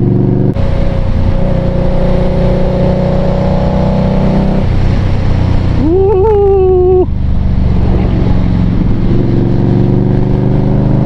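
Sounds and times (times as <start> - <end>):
motorcycle engine running: 0.0 - 11.0
wind rush: 0.0 - 11.0.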